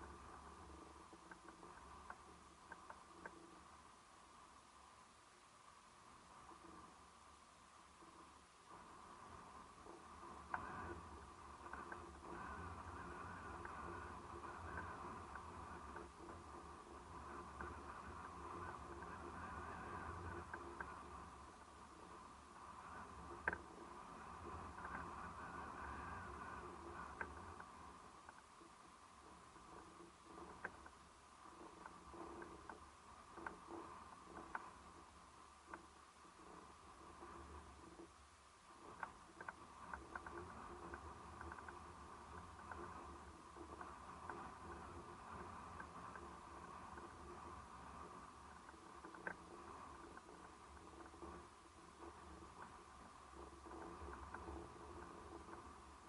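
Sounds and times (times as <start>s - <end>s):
faint sea ambience: 0.0s - 56.0s
surf rumble: 5.7s - 56.0s.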